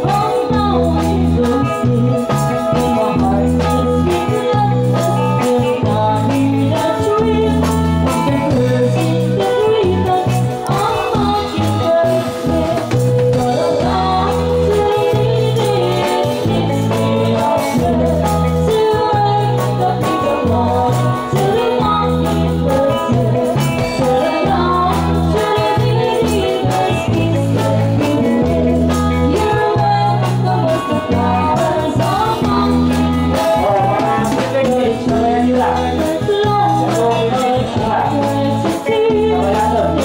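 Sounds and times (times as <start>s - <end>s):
live band playing: 0.0s - 40.0s
women singing: 0.0s - 40.0s.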